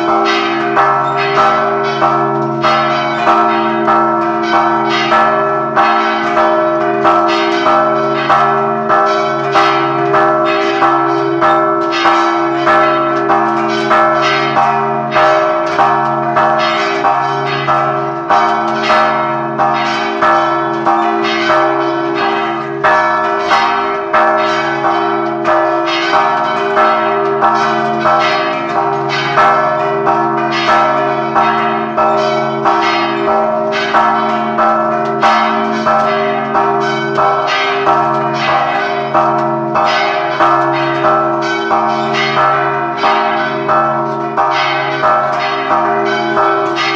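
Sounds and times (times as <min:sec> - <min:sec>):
peal of church bells: 0:00.0 - 0:46.9.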